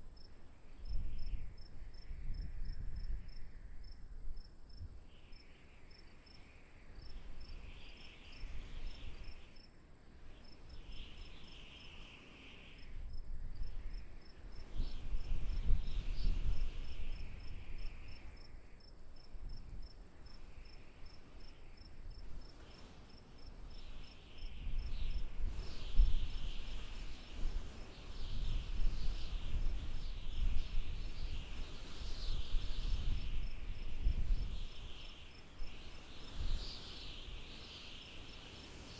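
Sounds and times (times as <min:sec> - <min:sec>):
crickets and insects chirping: 0:00.0 - 0:38.9.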